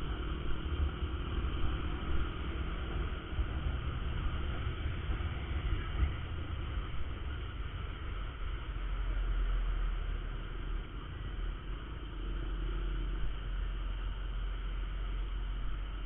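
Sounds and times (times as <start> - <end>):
motorcycle engine rumble: 0.0 - 16.0
wind and road noise: 0.0 - 16.0.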